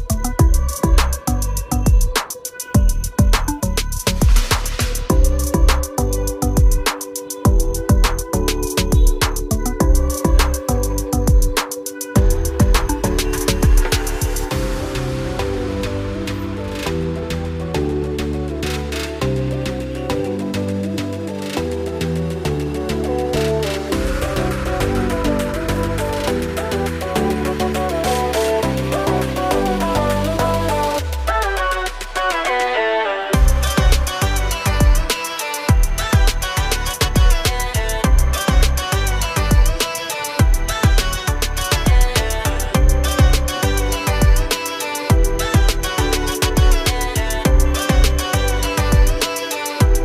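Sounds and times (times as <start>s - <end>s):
electronic music with beat: 0.0s - 50.0s.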